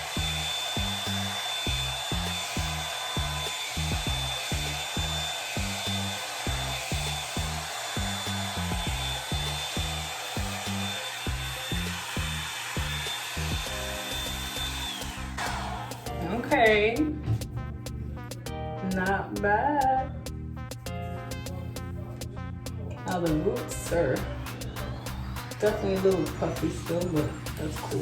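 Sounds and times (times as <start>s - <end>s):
hair dryer brush whining: 0.0s - 17.5s, 23.1s - 28.0s
background music with bass line: 0.0s - 28.0s.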